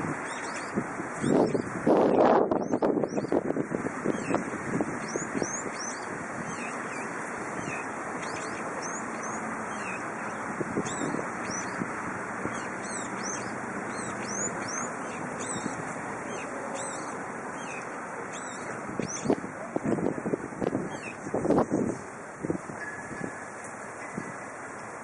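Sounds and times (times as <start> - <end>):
wind on microphone: 0.0 - 23.4
birds chirping: 0.0 - 24.6.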